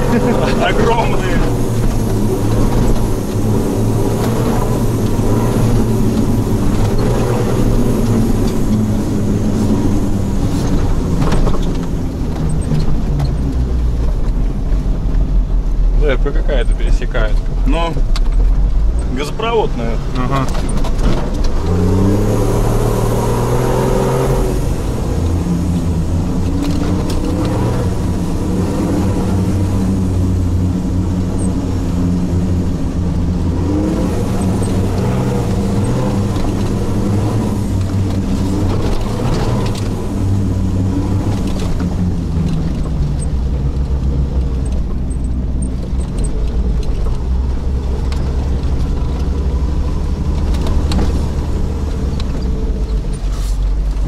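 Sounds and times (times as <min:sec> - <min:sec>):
engine revving inside car cabin: 0:00.0 - 0:14.3, 0:18.9 - 0:54.0.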